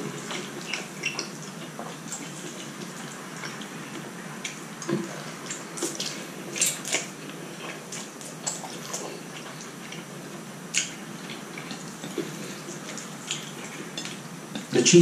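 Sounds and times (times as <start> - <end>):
chewing and lip smacks: 0.0 - 14.7.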